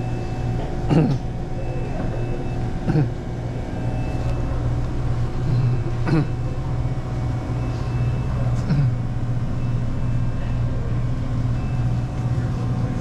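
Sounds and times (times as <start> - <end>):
drink coolers humming: 0.0 - 13.0.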